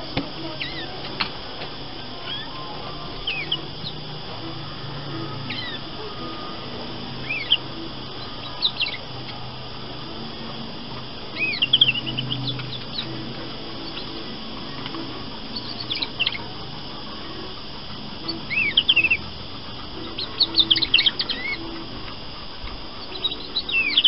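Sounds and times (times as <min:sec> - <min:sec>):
canary chirping: 0:00.0 - 0:24.0.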